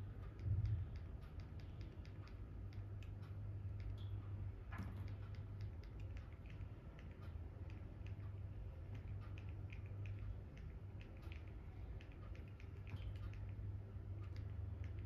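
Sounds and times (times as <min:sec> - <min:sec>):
low steady hum: 0:00.0 - 0:15.0
small ticking clicks: 0:00.0 - 0:15.0.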